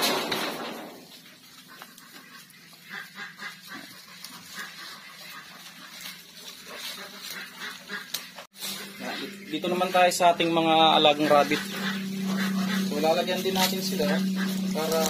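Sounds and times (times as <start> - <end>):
rustling and tearing of grass: 0.0 - 15.0
faint animal calls: 1.4 - 15.0.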